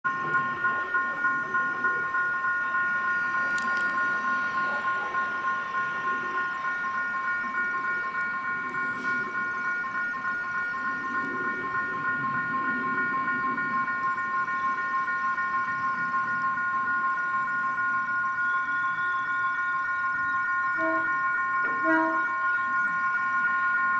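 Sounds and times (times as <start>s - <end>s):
level crossing warning alarm: 0.0s - 23.9s.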